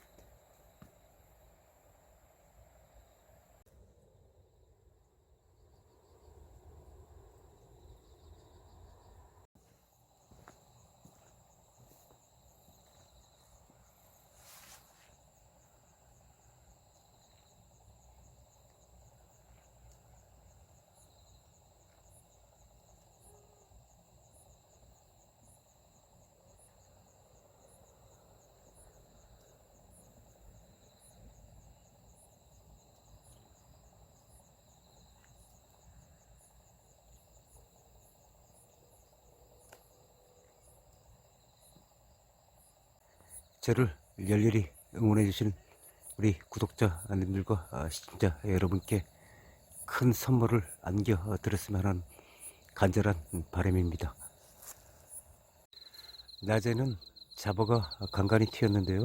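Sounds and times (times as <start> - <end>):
cricket chirps: 0.0 - 59.0
insects trilling: 4.5 - 59.0.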